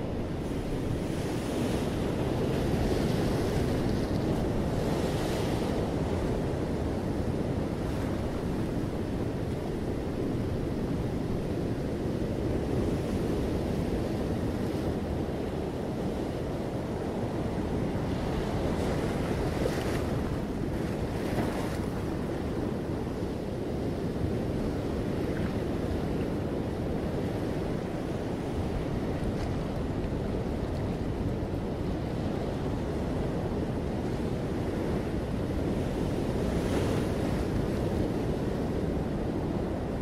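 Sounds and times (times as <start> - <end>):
wind rumbling on microphone: 0.0 - 40.0.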